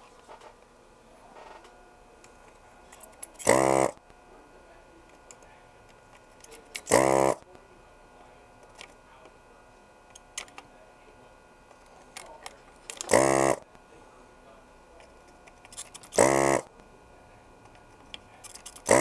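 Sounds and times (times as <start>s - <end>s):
desoldering pump buzzing: 1.4s - 10.6s, 11.4s - 19.0s.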